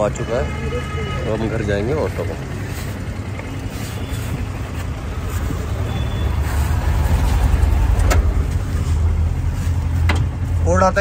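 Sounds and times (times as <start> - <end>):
auto-rickshaw engine running: 0.0 - 11.0.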